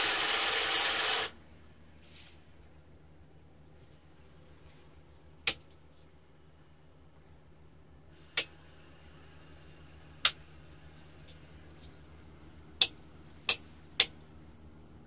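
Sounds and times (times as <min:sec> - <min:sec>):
faint steady low hum: 0:00.0 - 0:15.0.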